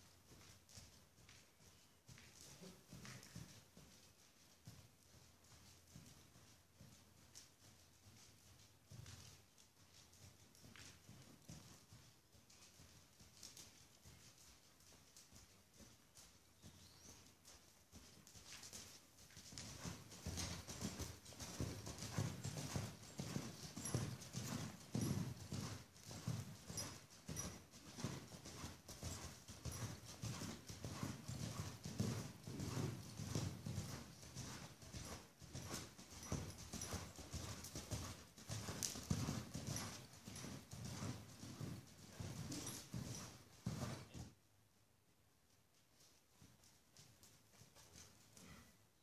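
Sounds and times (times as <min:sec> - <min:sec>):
hoofbeats on soft dirt: 0:00.0 - 0:44.4, 0:45.5 - 0:49.0.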